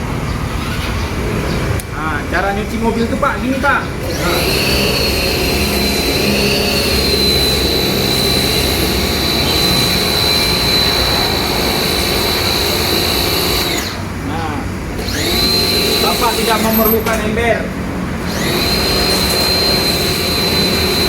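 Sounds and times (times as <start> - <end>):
pressure washer motor whine: 0.0 - 21.0
pressure washer water jet hissing: 2.1 - 21.0.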